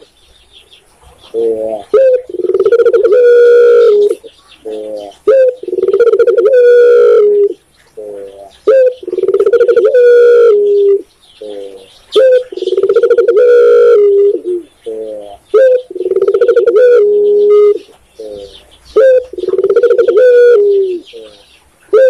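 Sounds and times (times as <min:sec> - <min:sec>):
dove cooing: 0:01.0 - 0:22.0.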